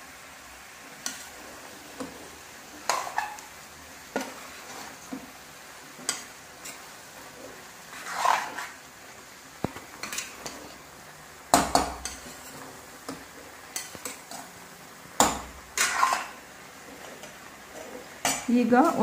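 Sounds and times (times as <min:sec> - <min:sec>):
chicken frying in a pan: 0:00.0 - 0:19.0
metal spatula scraping a pan: 0:00.9 - 0:08.9, 0:09.9 - 0:10.8, 0:11.5 - 0:14.5, 0:15.2 - 0:19.0.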